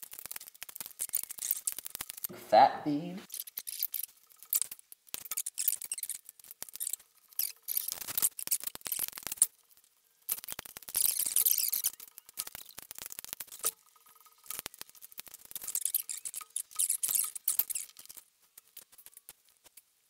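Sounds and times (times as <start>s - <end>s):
wooden blocks clicking and scraping: 0.0s - 2.3s, 3.2s - 19.9s.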